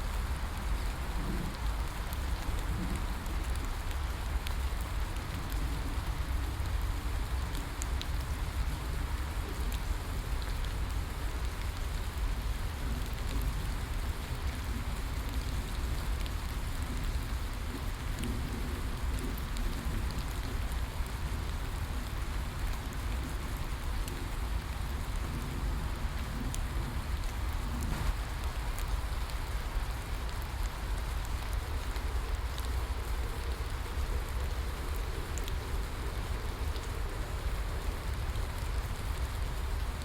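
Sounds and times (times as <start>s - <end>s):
steady rain hiss: 0.0s - 40.0s
raindrop ticks: 0.1s - 40.0s.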